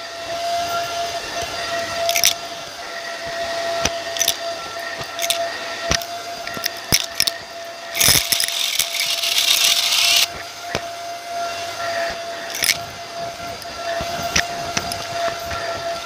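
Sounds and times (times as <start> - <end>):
loud rushing hiss: 0.0 - 16.0
vacuum cleaner motor whine: 0.0 - 16.0
crunchy bits rattling up vacuum wand: 1.3 - 2.5, 3.3 - 10.9, 11.6 - 16.0.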